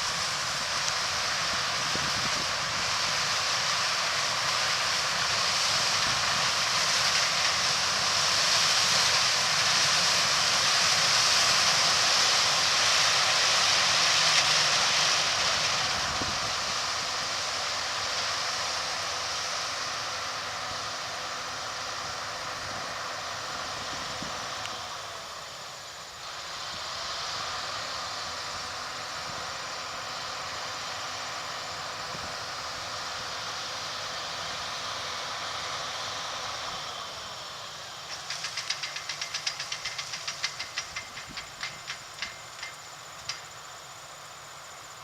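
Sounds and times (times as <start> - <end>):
combine harvester cutting: 0.0 - 45.0.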